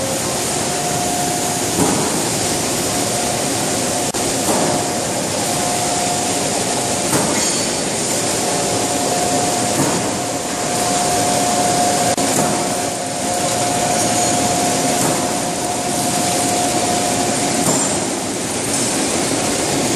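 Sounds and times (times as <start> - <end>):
steady machine whine: 0.0 - 19.9.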